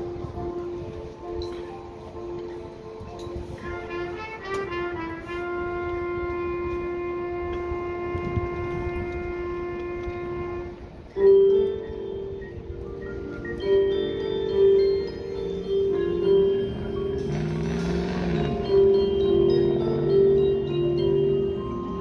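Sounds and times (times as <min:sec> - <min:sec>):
marching band music: 0:03.6 - 0:22.0.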